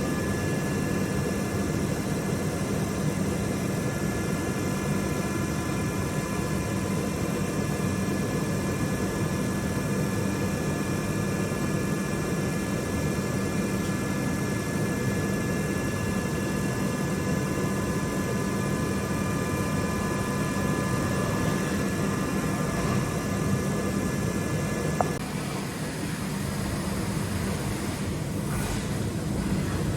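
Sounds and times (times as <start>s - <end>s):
high multi-tone machine whine: 0.0s - 29.9s
machining centre hum and rush: 0.0s - 29.9s.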